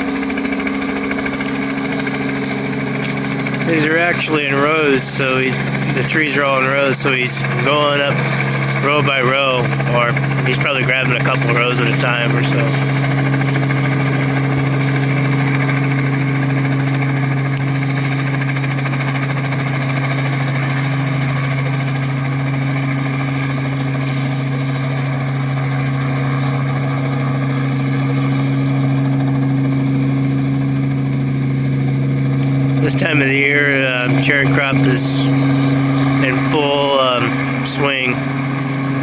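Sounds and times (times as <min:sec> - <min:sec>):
helicopter drone: 0:00.0 - 0:39.0.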